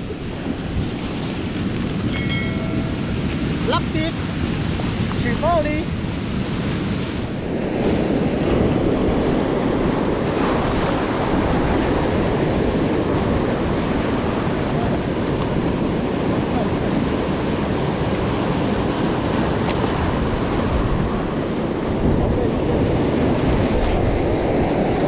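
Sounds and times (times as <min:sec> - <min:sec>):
sea surf washing: 0:00.0 - 0:25.0
wind buffeting microphone: 0:00.0 - 0:25.0.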